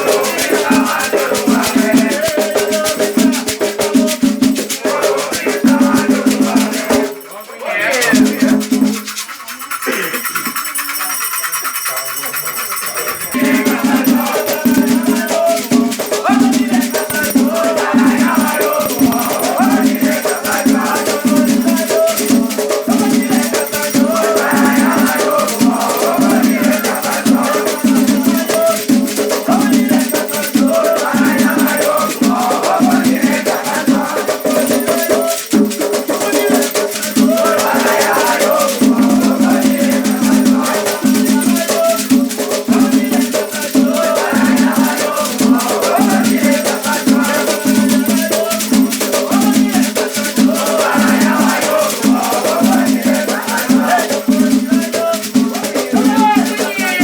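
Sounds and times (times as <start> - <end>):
drums: 0.0 - 7.2, 8.1 - 10.6, 11.2 - 57.0
rattle shaker: 0.0 - 57.0
voices singing: 0.0 - 57.0.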